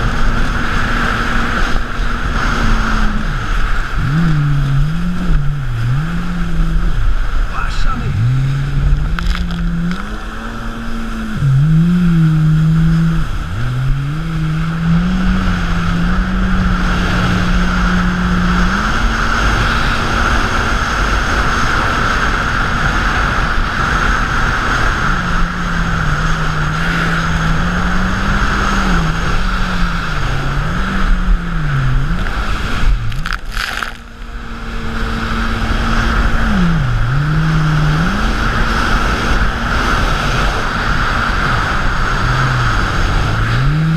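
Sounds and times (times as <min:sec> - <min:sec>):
jet ski engine revving: 0:00.0 - 0:43.9
rush of water and wind: 0:00.0 - 0:43.9.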